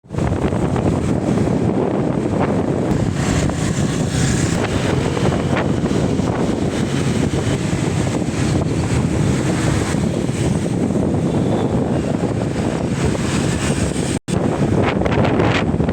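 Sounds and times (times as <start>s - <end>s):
faint sea: 0.0s - 15.9s
wind buffeting microphone: 0.0s - 15.9s.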